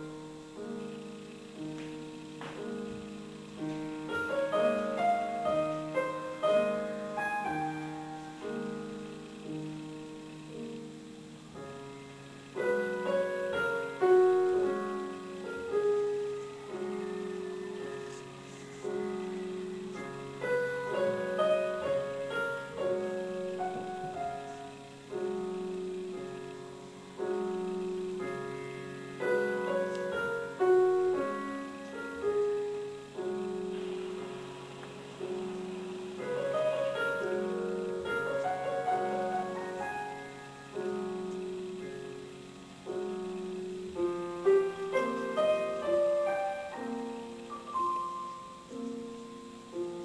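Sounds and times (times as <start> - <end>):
gentle piano melody: 0.0 - 50.0.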